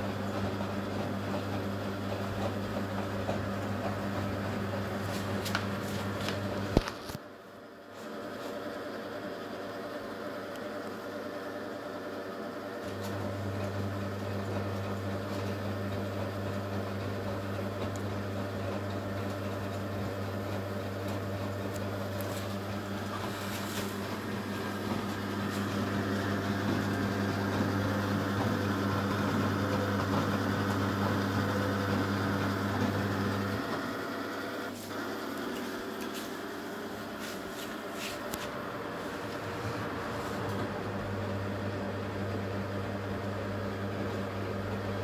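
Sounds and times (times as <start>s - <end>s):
washing machine running: 0.0s - 45.0s.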